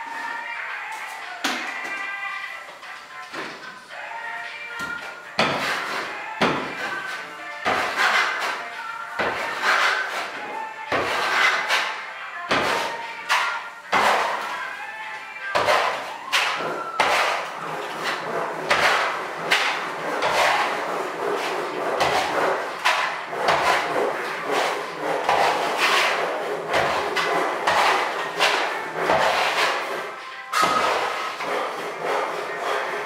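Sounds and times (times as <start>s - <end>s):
trowel scraping plaster on wall: 4.8s - 33.0s.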